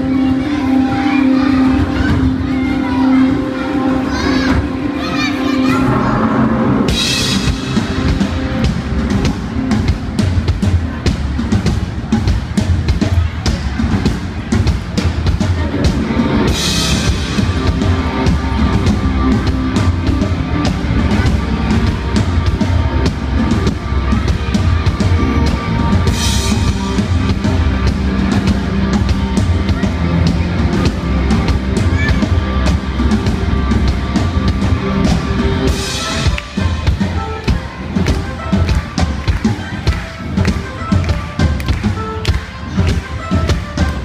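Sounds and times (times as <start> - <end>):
live rock band playing: 0.0 - 44.0
drum kit beat: 6.6 - 44.0.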